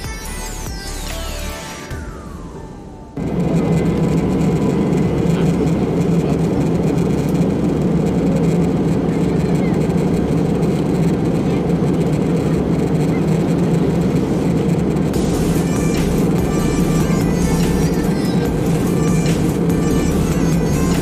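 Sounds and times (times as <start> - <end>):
jet engine cabin roar: 1.6 - 21.0.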